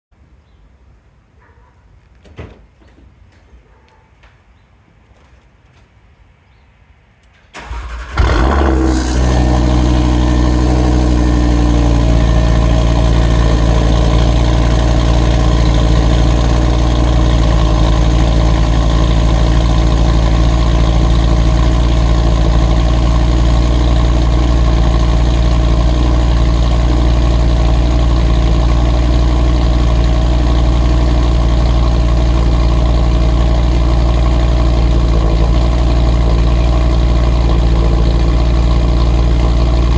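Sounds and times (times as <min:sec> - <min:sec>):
car engine starting and idling: 0:07.3 - 0:39.9.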